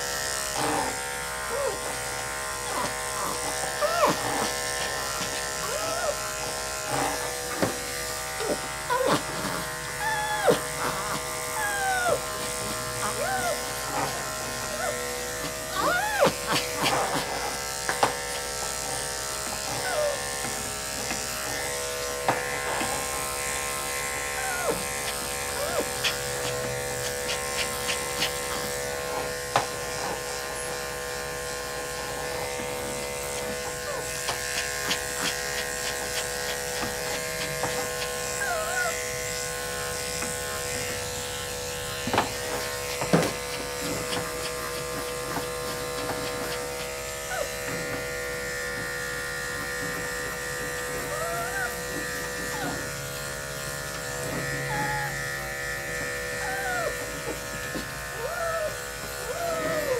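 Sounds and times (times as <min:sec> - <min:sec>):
electric clippers buzzing: 0:00.0 - 0:59.9.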